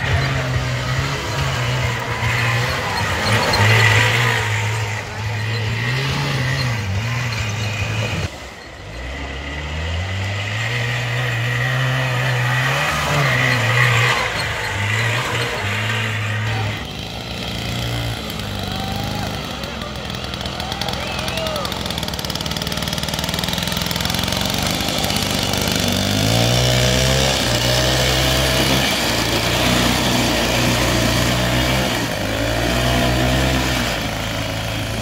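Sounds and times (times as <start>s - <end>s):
small tractor engines revving: 0.0s - 35.0s.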